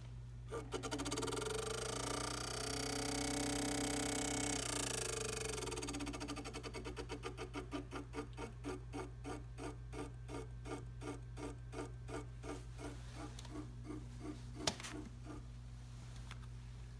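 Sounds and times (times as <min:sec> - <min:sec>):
steady low hum: 0:00.0 - 0:16.9
bike trainer whine: 0:00.5 - 0:15.5
rhythmic clicking: 0:00.8 - 0:15.4.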